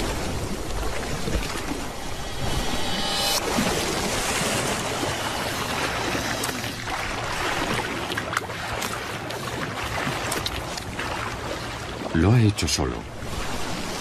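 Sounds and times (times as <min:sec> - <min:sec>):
water splashing and churning: 0:00.0 - 0:14.0.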